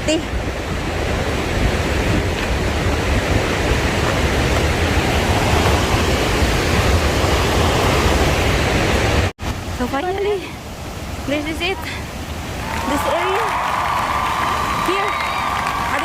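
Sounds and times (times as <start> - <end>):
waterfall rushing: 0.4 - 16.0.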